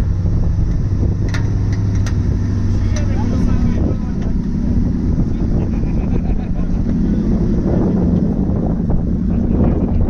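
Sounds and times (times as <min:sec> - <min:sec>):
car engine running while driving: 0:00.0 - 0:10.0
wind buffeting microphone: 0:00.0 - 0:10.0.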